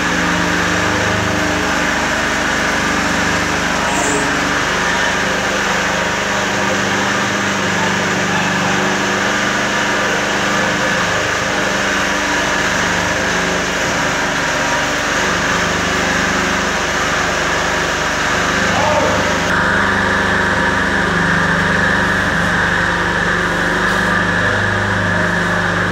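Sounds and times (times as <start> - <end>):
cutting machine humming: 0.0 - 25.9.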